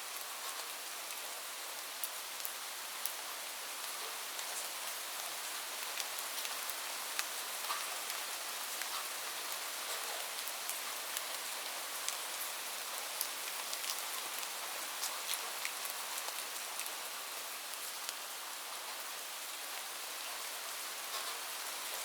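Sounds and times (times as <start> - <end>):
light rain hissing: 0.0 - 22.0
raindrops ticking on a surface: 0.1 - 22.0.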